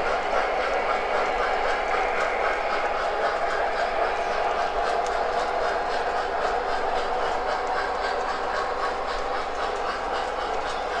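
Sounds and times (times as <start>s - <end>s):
model train rolling on track: 0.0s - 11.0s.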